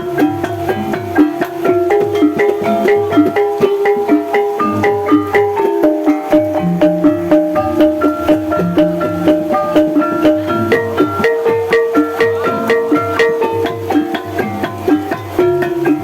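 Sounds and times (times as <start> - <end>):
gamelan struck pitched notes: 0.0 - 16.0
low drum strokes: 0.0 - 16.0.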